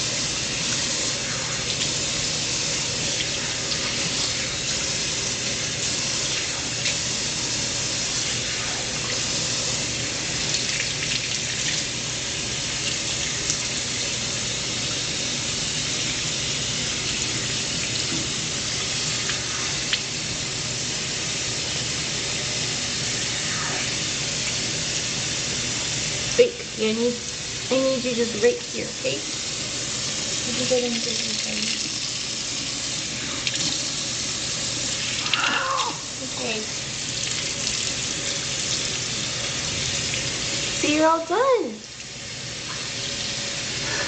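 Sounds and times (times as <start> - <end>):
bathtub tap running: 0.0 - 43.8.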